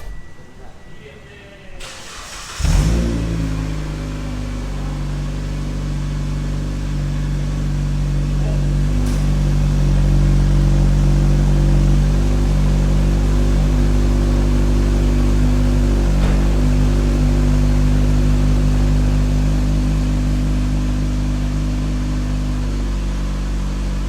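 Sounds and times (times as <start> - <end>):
car engine idling: 1.8 - 24.0.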